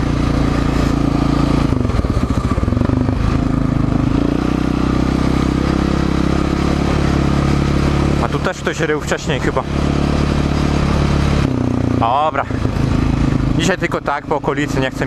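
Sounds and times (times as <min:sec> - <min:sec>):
quad engine under throttle: 0:00.0 - 0:15.0
wind: 0:00.0 - 0:15.0.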